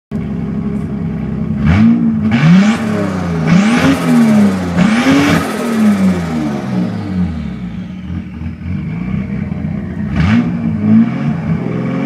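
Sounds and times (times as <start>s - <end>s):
car engine revving: 0.8s - 12.0s.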